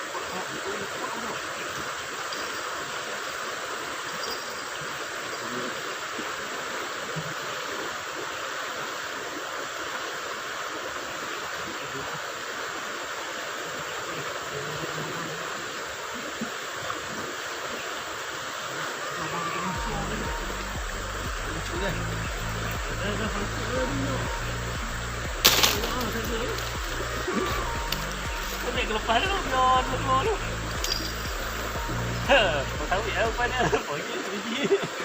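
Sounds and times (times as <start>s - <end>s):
riverside ambience hiss: 0.0s - 35.0s.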